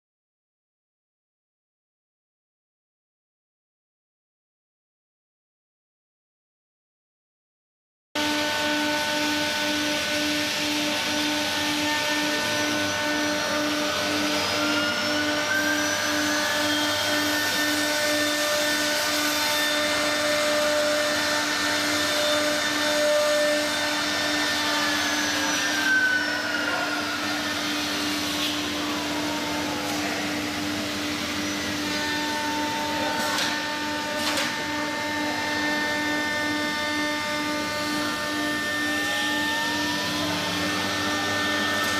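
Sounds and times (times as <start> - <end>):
cnc router spindle whine: 8.2 - 41.9.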